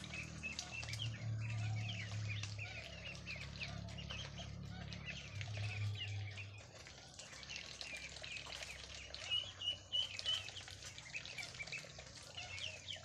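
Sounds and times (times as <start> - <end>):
small birds chirping and cheeping: 0.0 - 13.0.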